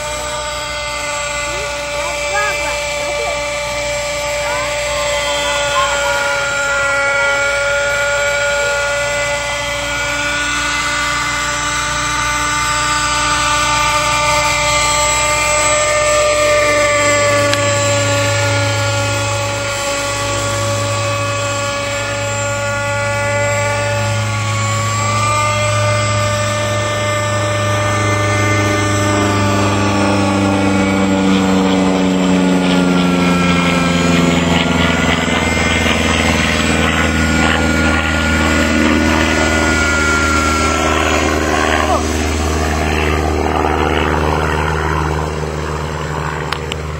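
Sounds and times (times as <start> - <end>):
low hum: 0.0 - 46.9
model helicopter whining: 0.0 - 46.9.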